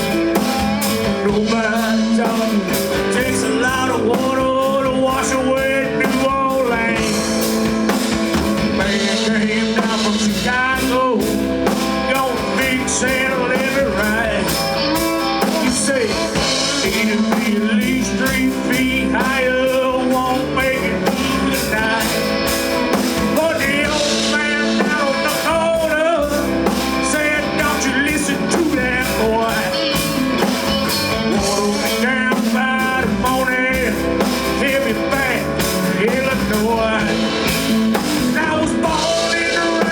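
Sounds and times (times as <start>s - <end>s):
blues-rock band playing: 0.0s - 39.9s
lead guitar bending notes: 0.0s - 39.9s.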